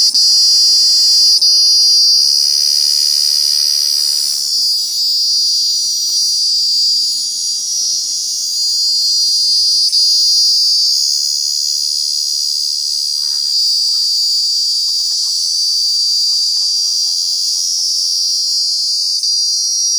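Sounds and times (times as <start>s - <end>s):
cicadas singing: 0.0s - 19.9s.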